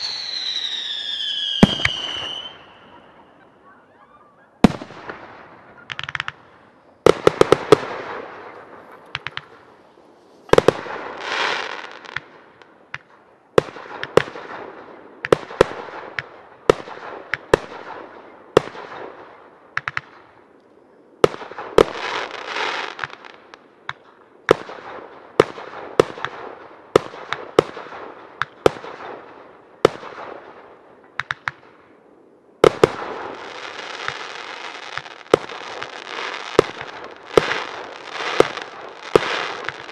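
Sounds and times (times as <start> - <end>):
fireworks crackling: 0.0 - 3.5, 4.6 - 18.0, 21.2 - 32.0, 32.6 - 39.9
fireworks bangs: 0.0 - 3.8, 4.6 - 20.3, 21.2 - 32.0, 32.6 - 39.9.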